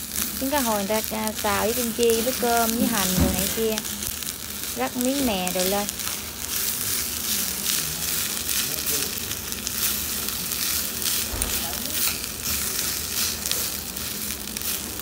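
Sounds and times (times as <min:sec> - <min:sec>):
rice sizzling in hot pot: 0:00.0 - 0:15.0.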